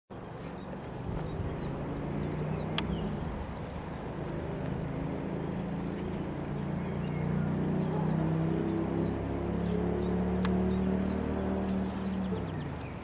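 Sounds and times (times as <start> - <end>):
low engine hum: 0.1 - 13.0.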